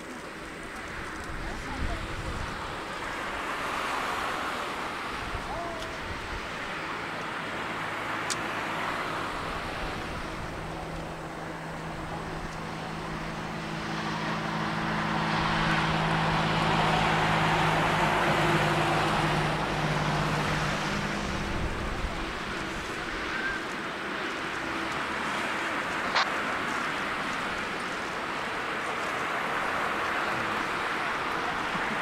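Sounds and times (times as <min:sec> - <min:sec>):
distant jet engines droning: 0:00.0 - 0:32.0.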